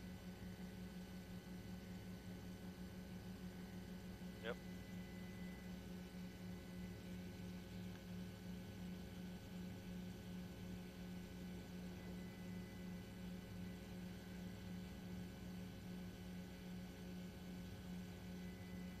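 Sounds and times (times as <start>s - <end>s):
faint pulsing low hum: 0.0s - 19.0s.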